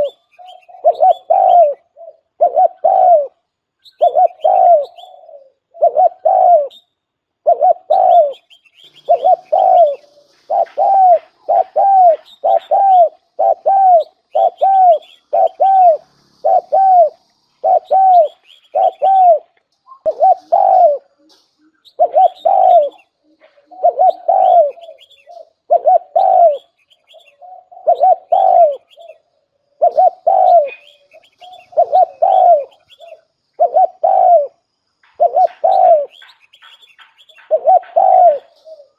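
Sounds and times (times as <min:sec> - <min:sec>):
dove cooing: 0:00.0 - 0:06.8, 0:07.4 - 0:38.9.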